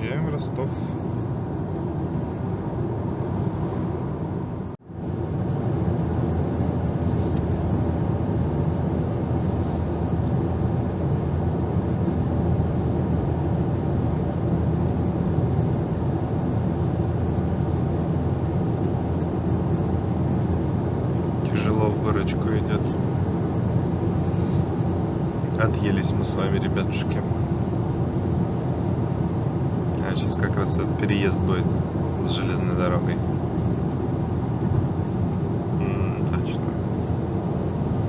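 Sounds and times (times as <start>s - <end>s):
car driving at speed: 0.0s - 38.0s.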